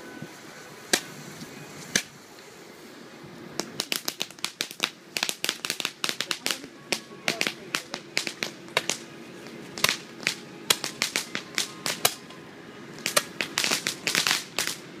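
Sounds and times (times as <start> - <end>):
firecrackers banging: 0.0 - 2.6, 3.4 - 15.0.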